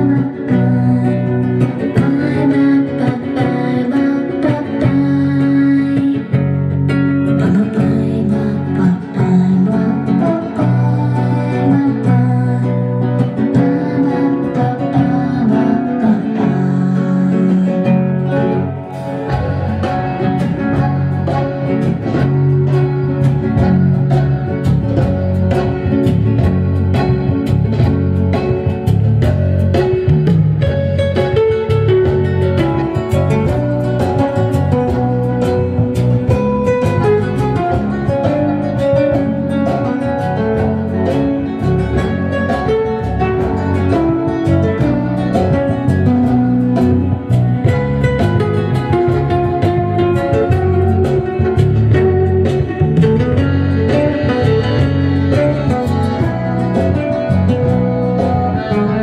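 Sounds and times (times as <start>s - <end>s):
deep bass line: 0.0s - 59.0s
guitar-led music over loudspeakers: 0.0s - 59.0s
steady percussion: 0.0s - 59.0s.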